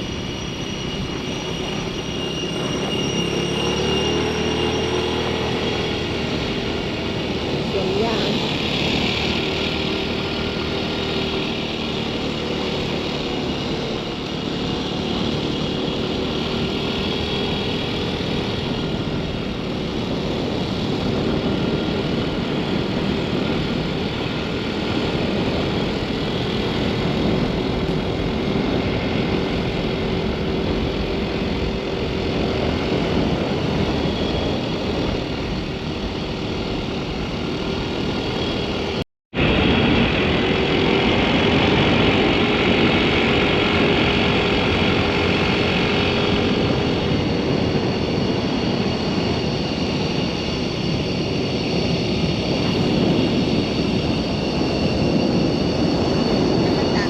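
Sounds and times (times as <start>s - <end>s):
noisy rush: 0.0s - 57.0s.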